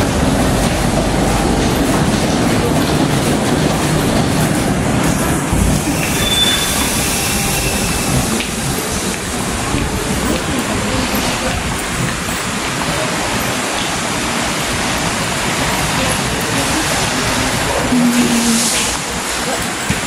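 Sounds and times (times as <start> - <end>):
train rushing rumble: 0.0 - 20.0.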